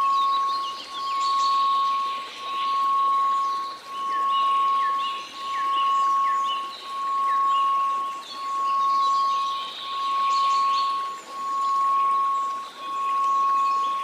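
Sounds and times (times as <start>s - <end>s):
birds chirping: 0.0s - 14.0s
pulsing pure tone: 0.0s - 14.0s.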